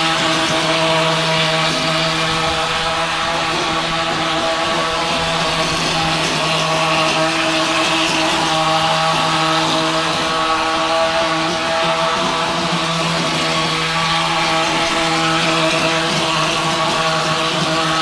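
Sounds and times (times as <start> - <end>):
plaster-spraying machine humming: 0.0 - 18.0.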